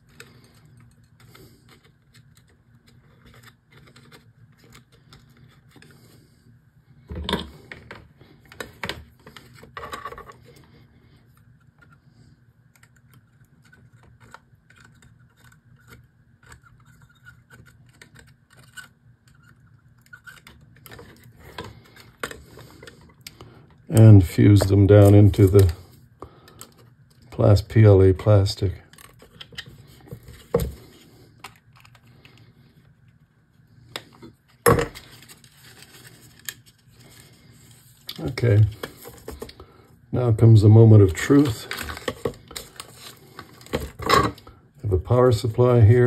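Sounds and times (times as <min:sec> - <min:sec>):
hands handling wires and tools: 0:00.0 - 0:06.0, 0:07.1 - 0:25.9, 0:26.5 - 0:33.3, 0:33.9 - 0:39.6, 0:40.4 - 0:46.0.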